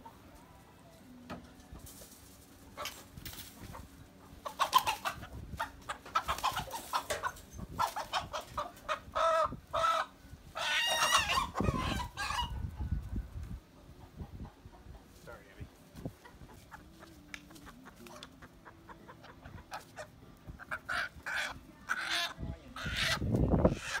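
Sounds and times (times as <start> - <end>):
chickens squawking and clucking: 2.6 - 15.2, 16.0 - 24.0.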